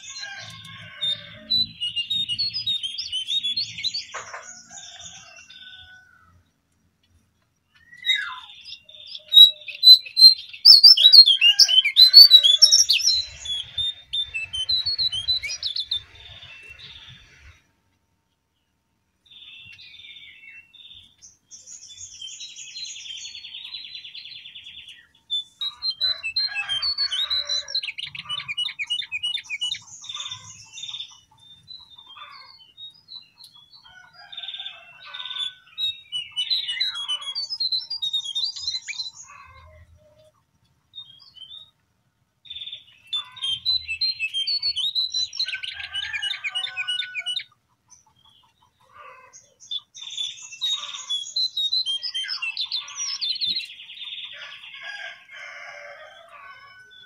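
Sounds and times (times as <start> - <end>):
bird twittering and trilling: 0.0 - 6.1, 7.7 - 17.6, 19.3 - 41.8, 42.4 - 57.0.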